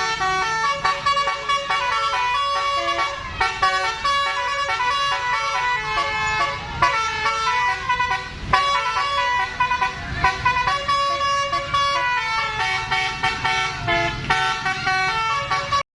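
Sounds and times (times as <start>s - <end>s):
musical air horn: 0.0s - 15.8s.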